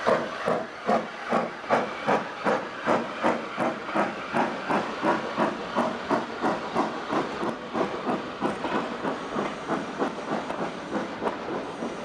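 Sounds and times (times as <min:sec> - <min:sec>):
hiss of steam: 0:00.0 - 0:12.0
steam locomotive exhaust chuffing: 0:00.0 - 0:12.0.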